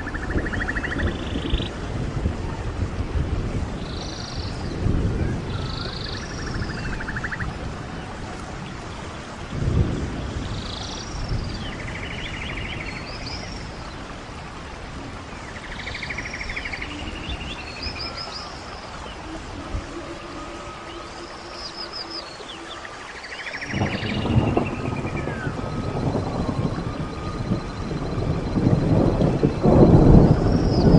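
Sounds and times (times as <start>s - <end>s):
low rumbling noise: 0.0s - 30.9s.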